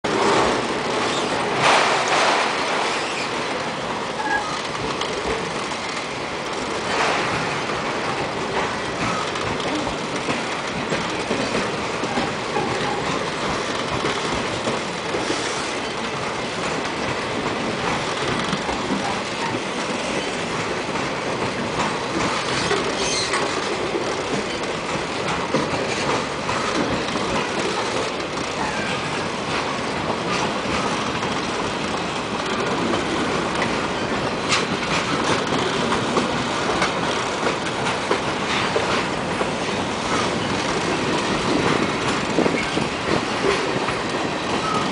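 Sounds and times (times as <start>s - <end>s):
freight cars rolling on rails: 0.0s - 44.9s
clacks and clanks: 0.1s - 44.9s.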